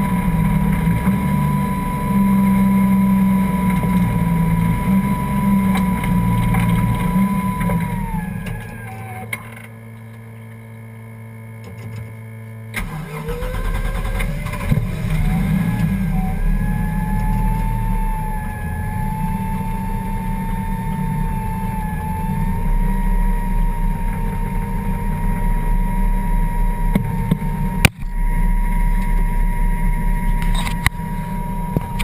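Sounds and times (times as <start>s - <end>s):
car engine idling: 0.0s - 9.6s, 12.8s - 32.0s
rising whine: 0.0s - 9.6s, 12.8s - 32.0s.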